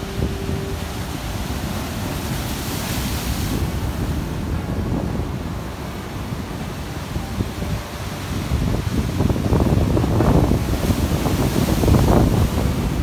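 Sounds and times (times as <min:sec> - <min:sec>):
ocean surf breaking over rocks: 0:00.0 - 0:13.0
wind buffeting microphone: 0:00.0 - 0:13.0.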